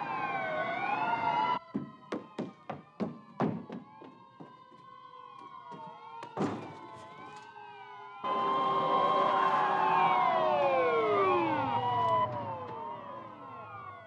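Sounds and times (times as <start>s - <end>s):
police sirens wailing: 0.0s - 14.0s.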